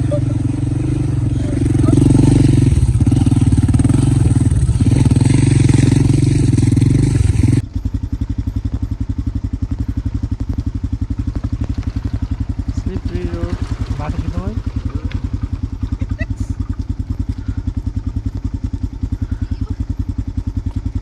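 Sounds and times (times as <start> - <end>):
motorcycle engine running hard: 0.0 - 21.0.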